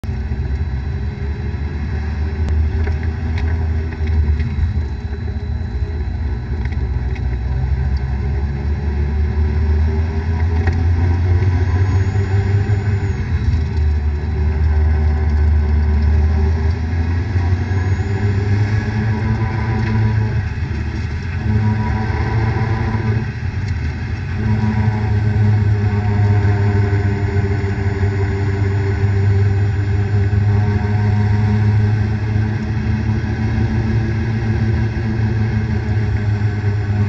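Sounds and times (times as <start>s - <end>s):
car running with low drone: 0.0s - 37.0s.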